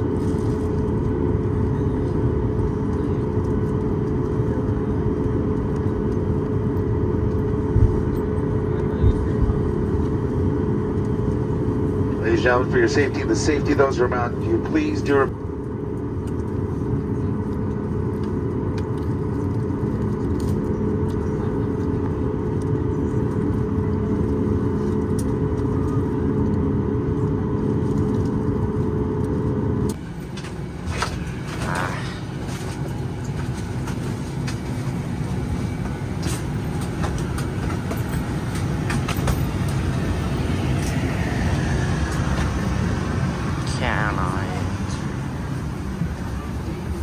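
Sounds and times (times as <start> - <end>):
airplane cabin rumble: 0.0 - 47.0.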